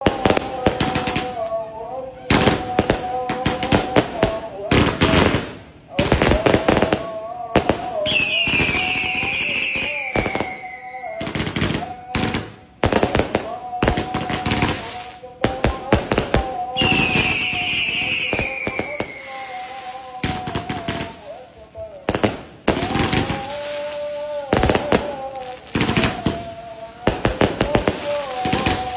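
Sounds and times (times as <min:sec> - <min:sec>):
firecrackers crackling bangs: 0:00.0 - 0:28.9
whistling firework: 0:00.0 - 0:28.9.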